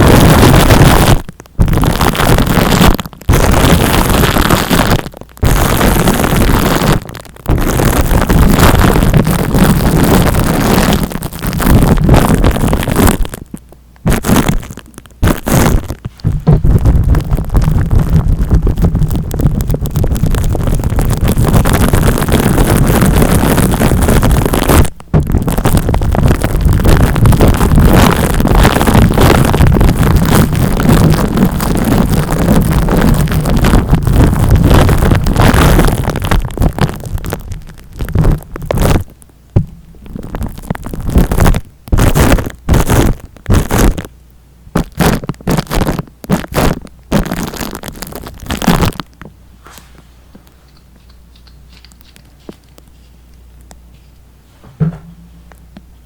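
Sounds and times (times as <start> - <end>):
rubbing and scratching on microphone: 0.0 - 44.1, 44.8 - 55.7.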